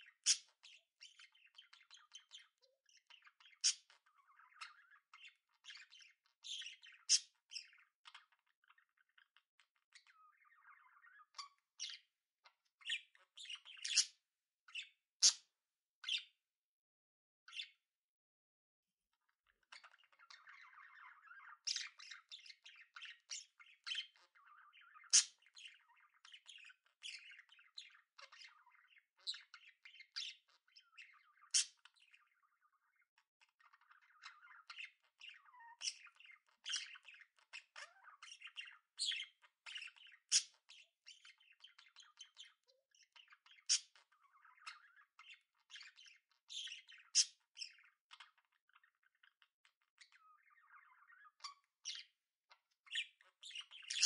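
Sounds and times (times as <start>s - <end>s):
budgerigars chattering and chirping: 0.0s - 16.3s, 19.5s - 54.0s.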